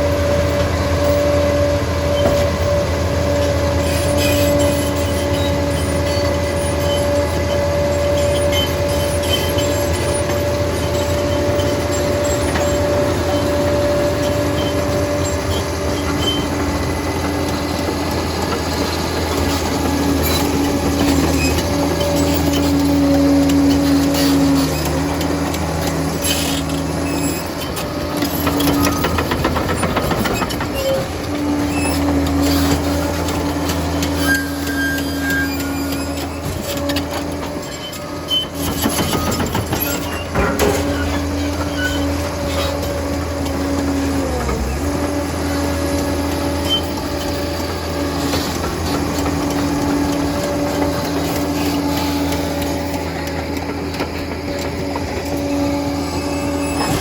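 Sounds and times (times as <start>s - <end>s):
dozer engine running: 0.0s - 57.0s
steel tracks clanking: 0.0s - 57.0s.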